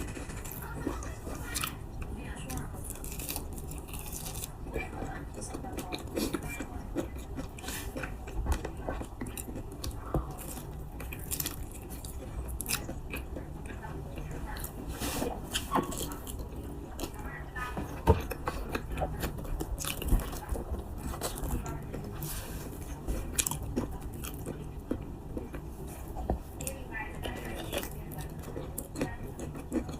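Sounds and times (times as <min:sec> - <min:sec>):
person chewing: 0:00.0 - 0:29.9.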